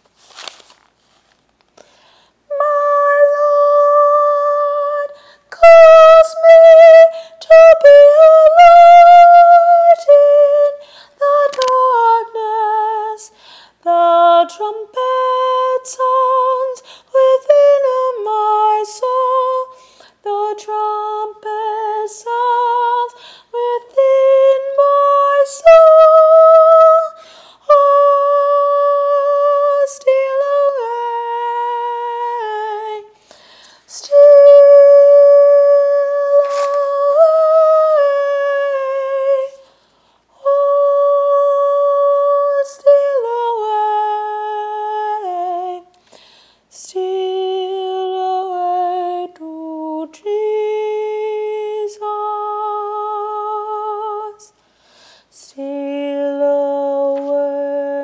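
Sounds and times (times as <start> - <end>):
woman singing unaccompanied: 2.5 - 33.3, 33.9 - 39.8, 40.4 - 46.0, 46.7 - 54.6, 55.3 - 58.0.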